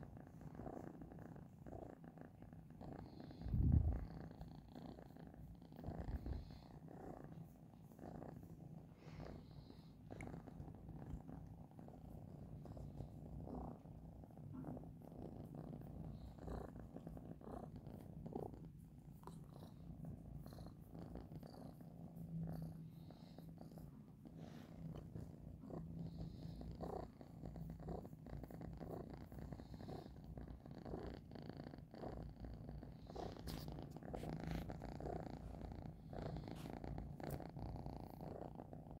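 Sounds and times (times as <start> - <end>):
cat purring: 0.0 - 39.0.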